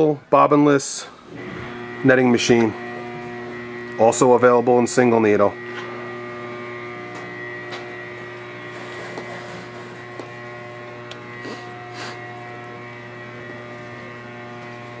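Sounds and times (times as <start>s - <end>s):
sewing machine motor hum: 1.2s - 15.0s.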